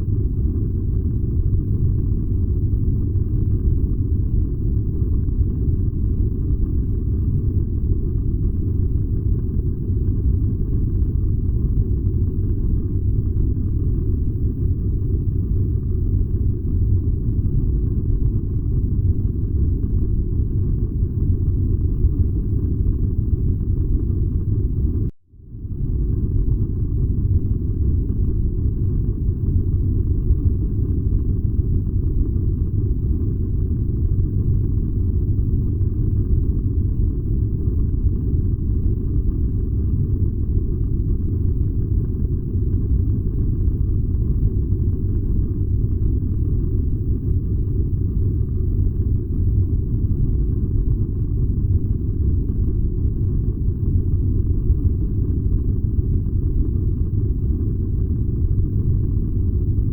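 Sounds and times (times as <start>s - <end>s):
furnace low rumble: 0.0s - 59.9s.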